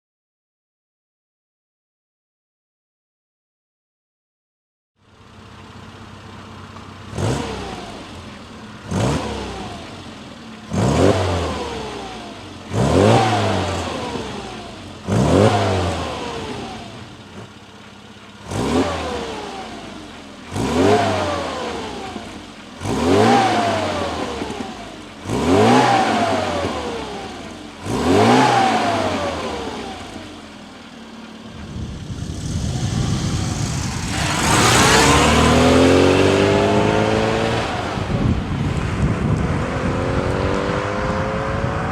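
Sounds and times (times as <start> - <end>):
car engine idling and revving: 5.0 - 41.9.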